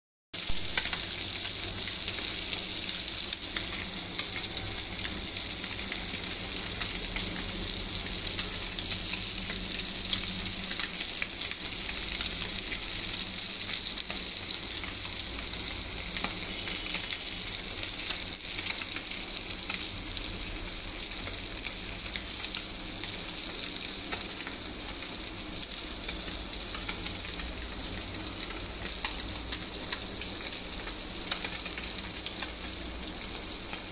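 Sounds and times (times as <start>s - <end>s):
fish sizzling in oil: 0.4s - 33.9s.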